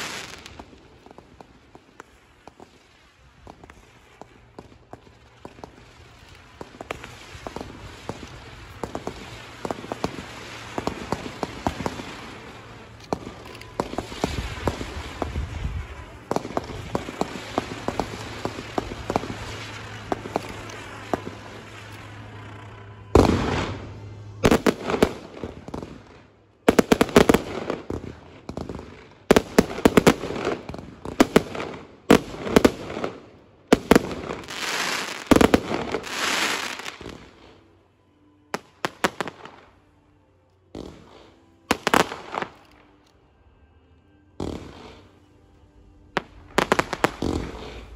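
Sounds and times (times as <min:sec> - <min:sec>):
loud sharp firework bangs: 0:00.0 - 0:37.6, 0:44.4 - 0:45.2, 0:46.1 - 0:47.9
fireworks crackling and popping: 0:00.0 - 0:37.8, 0:38.4 - 0:40.0, 0:40.7 - 0:43.3, 0:44.3 - 0:47.9.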